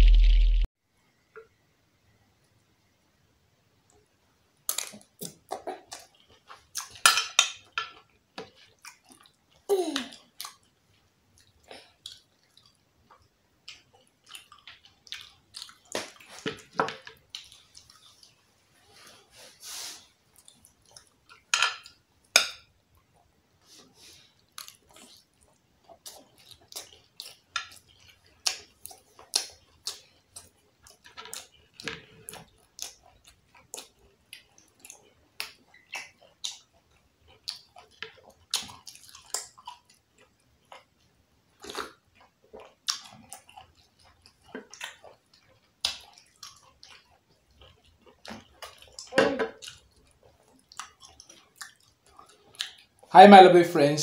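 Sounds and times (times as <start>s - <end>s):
person chewing with wet clicks: 4.6s - 18.4s, 20.3s - 23.3s, 24.3s - 53.1s.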